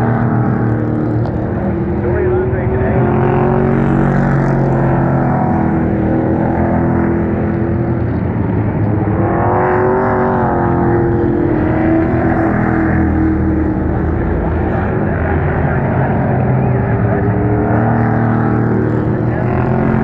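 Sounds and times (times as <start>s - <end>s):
race truck engines passing: 0.0s - 20.0s.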